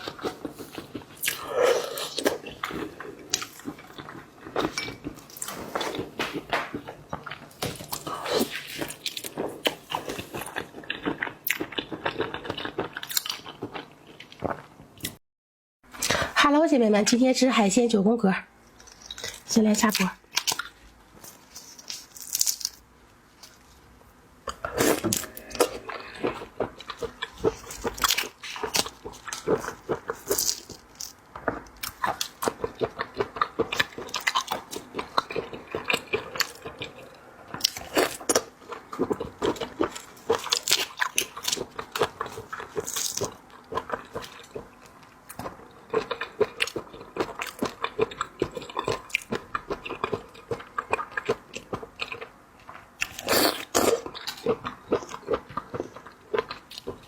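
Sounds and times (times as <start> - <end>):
chewing and crunching seafood: 0.0 - 15.2, 18.6 - 57.0.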